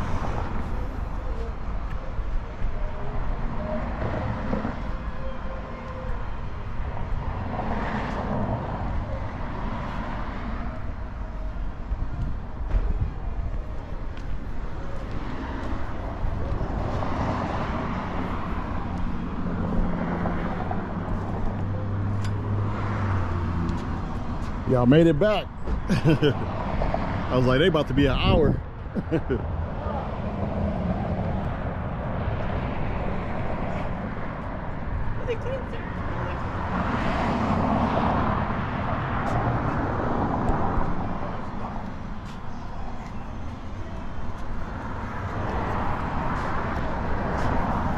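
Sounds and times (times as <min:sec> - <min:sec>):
rushing background noise: 0:00.0 - 0:47.9
vehicle passing: 0:06.3 - 0:11.2, 0:13.8 - 0:47.9.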